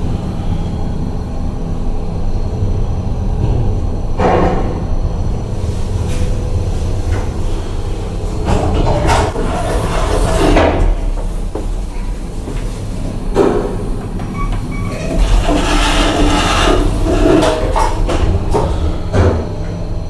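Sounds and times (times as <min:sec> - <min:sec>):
elevator low rumble: 0:00.0 - 0:20.0
elevator knocks and clunks: 0:03.3 - 0:20.0.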